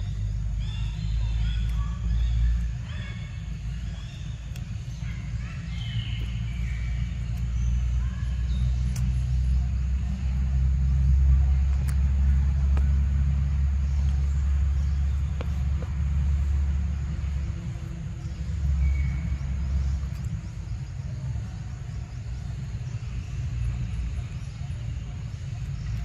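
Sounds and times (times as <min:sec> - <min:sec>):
engine idling rumble: 0:00.0 - 0:26.0.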